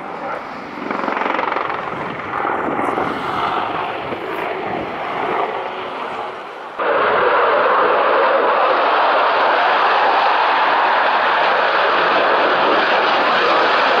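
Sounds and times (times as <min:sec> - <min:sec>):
helicopter rotor and engines: 0:00.0 - 0:14.0
steady rushing noise: 0:00.0 - 0:14.0.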